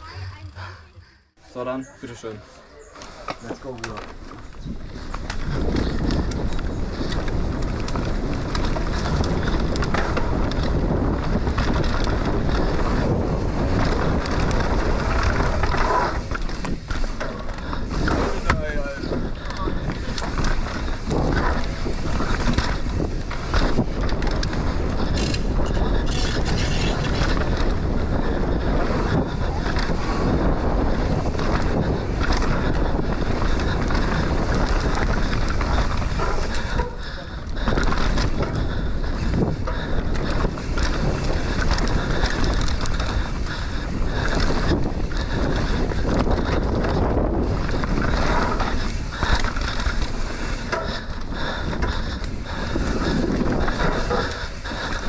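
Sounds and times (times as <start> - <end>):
bike tyre noise: 0.0 - 55.0
bike rattling over rough ground: 1.5 - 55.0
wind rush on microphone: 3.2 - 55.0.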